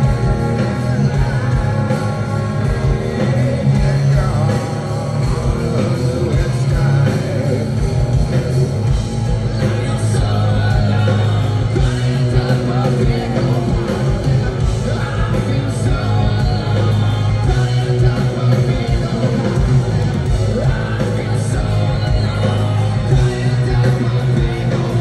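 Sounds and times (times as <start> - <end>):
person singing: 0.0 - 8.7, 9.4 - 25.0
live rock band playing: 0.0 - 25.0.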